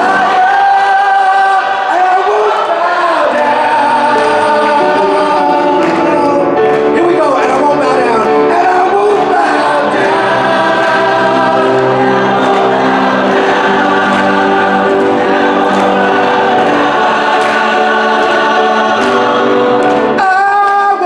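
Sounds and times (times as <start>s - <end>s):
gospel choir singing: 0.0s - 21.0s.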